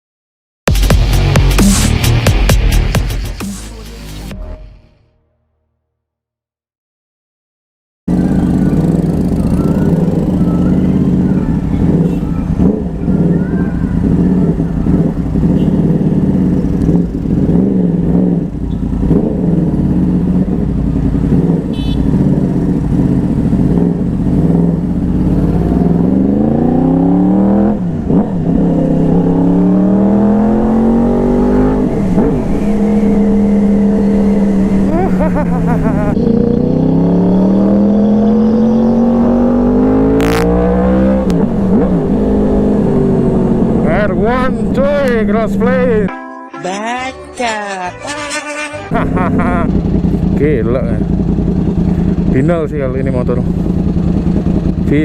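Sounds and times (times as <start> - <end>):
motorcycle engine running: 8.1 - 46.1, 48.9 - 55.0.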